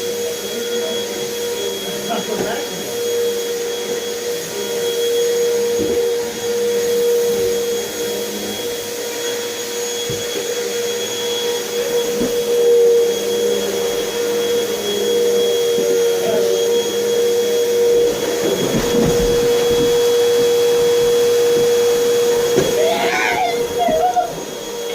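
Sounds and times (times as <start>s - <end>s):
vacuum cleaner running: 0.0s - 24.9s.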